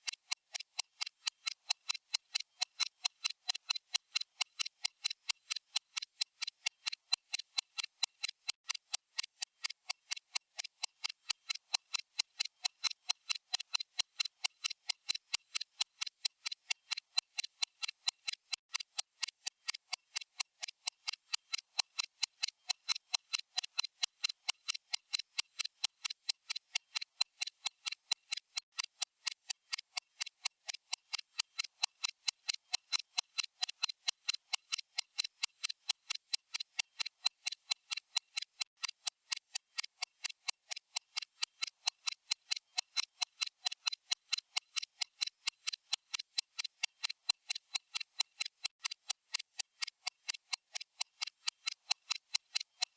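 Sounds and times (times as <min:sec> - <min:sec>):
stopwatch ticking: 0:00.0 - 0:52.9.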